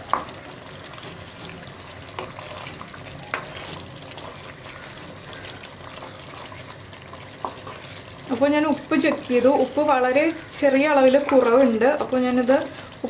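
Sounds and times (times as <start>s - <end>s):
curry bubbling and sizzling: 0.0s - 13.0s
spatula stirring: 0.2s - 13.0s.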